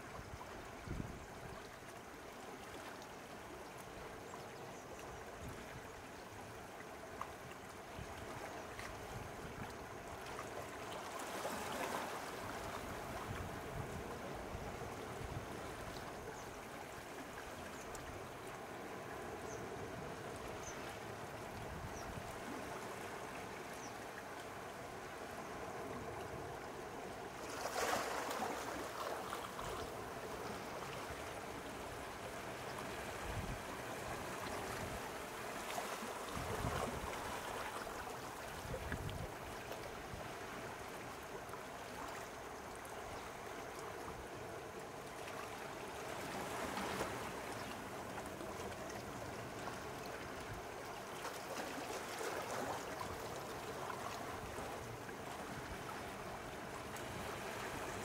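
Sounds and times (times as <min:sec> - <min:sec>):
sea waves lapping at shore: 0:01.7 - 0:58.0.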